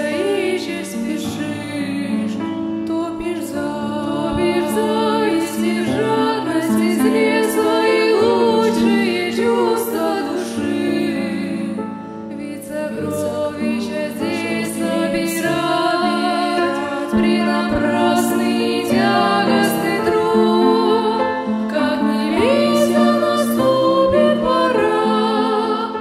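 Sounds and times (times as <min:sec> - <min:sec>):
voices singing worship song: 0:00.0 - 0:26.0.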